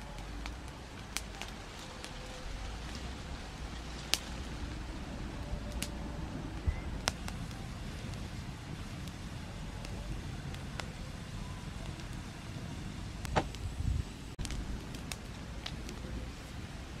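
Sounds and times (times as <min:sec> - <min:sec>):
campfire crackling: 0:00.0 - 0:17.0
fire popping: 0:00.0 - 0:17.0
low steady rumble: 0:00.0 - 0:17.0.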